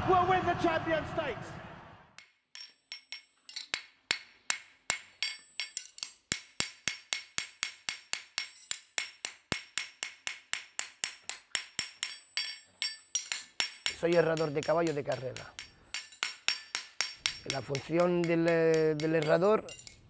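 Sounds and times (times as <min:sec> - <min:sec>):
hammer striking horseshoe on anvil: 0:02.2 - 0:20.0.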